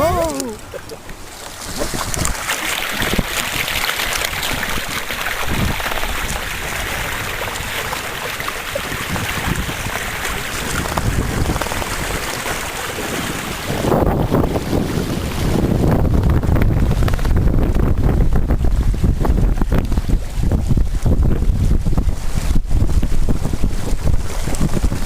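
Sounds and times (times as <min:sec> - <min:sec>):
water splashing along hull: 0:00.0 - 0:25.0
wind buffeting microphone: 0:00.0 - 0:25.0.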